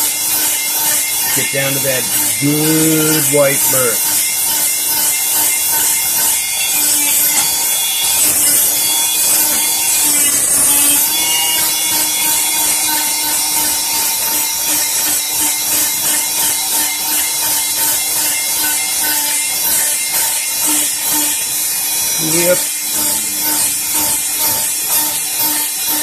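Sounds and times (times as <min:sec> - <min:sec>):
power tool whine: 0:00.0 - 0:26.0.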